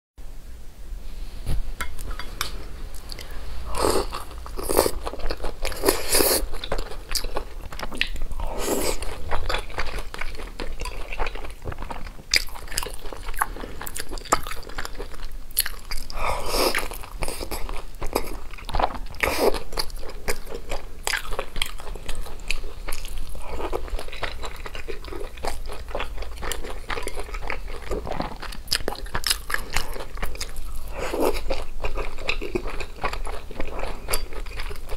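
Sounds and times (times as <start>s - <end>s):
person chewing dumplings: 2.0s - 34.9s.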